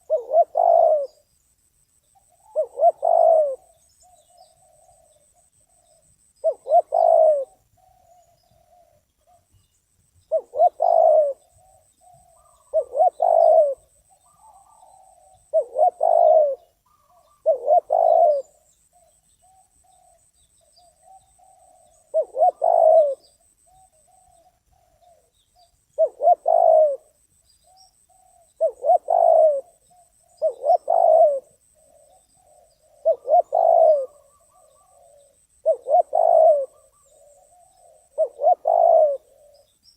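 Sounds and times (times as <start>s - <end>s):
dove cooing: 0.0s - 1.2s, 2.2s - 9.6s, 10.3s - 39.7s.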